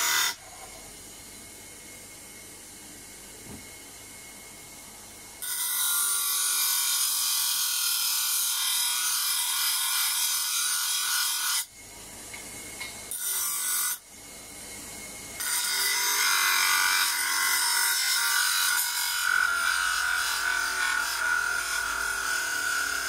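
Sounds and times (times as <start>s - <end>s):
faint motor hum: 0.0s - 23.0s.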